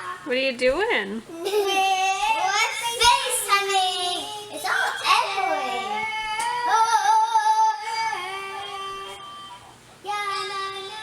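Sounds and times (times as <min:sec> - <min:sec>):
children singing held notes: 0:02.2 - 0:11.0.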